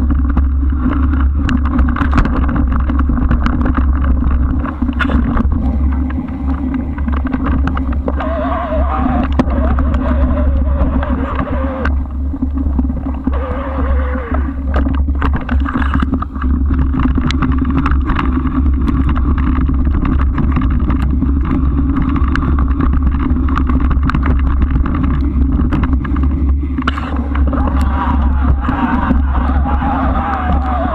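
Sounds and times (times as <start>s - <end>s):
small clicks and knocks: 0.0s - 8.4s, 14.3s - 30.9s
bike rolling noise: 0.0s - 30.9s
wind rumble: 0.0s - 30.9s.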